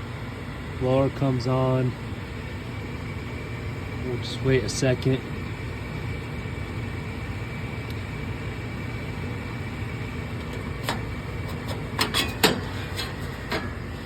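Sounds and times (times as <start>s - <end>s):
furnace blower fan humming: 0.0s - 14.0s.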